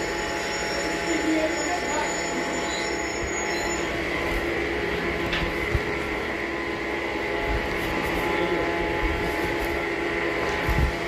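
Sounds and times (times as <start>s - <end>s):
high machine whine: 0.0s - 11.0s
sawmill machinery running: 0.0s - 11.0s.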